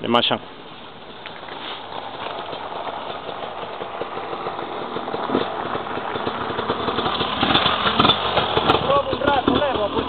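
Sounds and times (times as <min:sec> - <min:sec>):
dirt bike engine running: 0:01.1 - 0:10.0.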